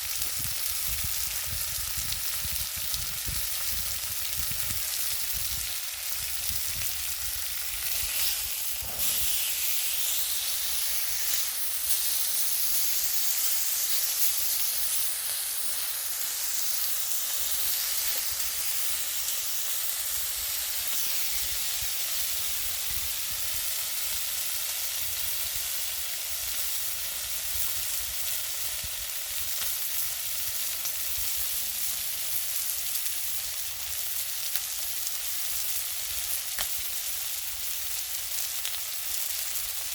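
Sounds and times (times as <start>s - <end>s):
food sizzling on a grill: 0.0s - 39.9s.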